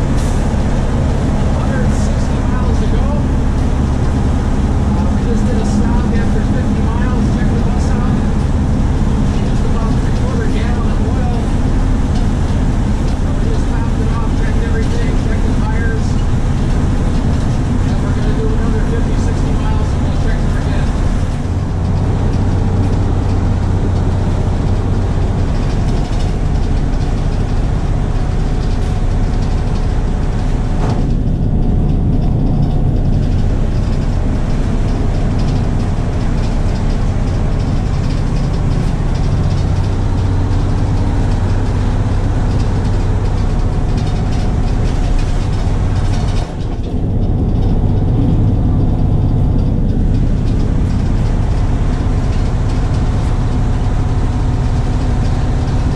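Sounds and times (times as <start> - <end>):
bus engine droning: 0.0 - 55.9.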